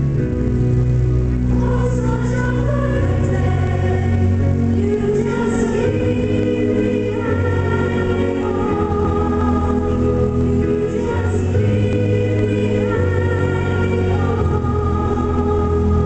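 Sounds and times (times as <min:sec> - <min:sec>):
instrumental accompaniment with bass: 0:00.0 - 0:16.0.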